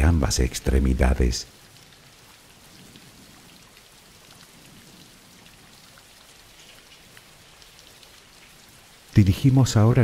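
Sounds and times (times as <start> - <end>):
faint steady rain: 0.0 - 10.0
raindrops ticking: 0.0 - 10.0.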